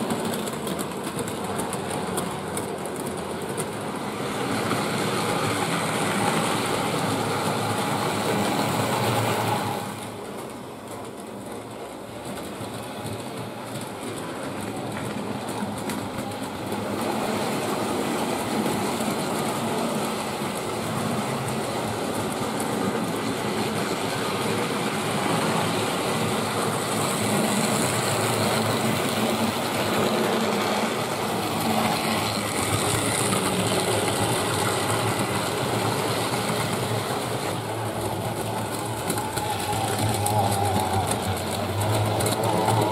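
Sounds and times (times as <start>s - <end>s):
model train motors whirring: 0.0s - 42.9s
wheels clattering over rail joints: 0.0s - 42.9s.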